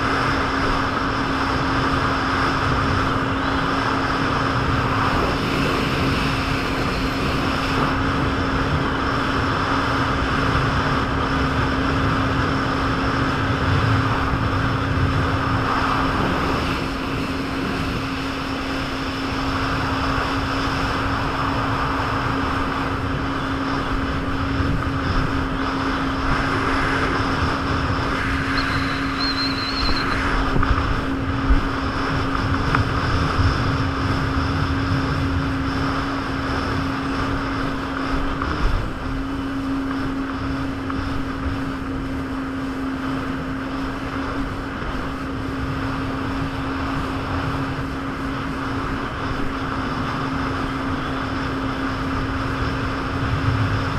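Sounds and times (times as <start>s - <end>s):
dense rushing noise: 0.0s - 53.9s
jet ski engine running: 0.0s - 53.9s.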